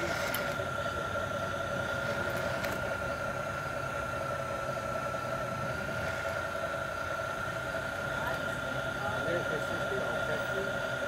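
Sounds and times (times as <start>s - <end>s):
model locomotive motor whine: 0.0s - 11.0s.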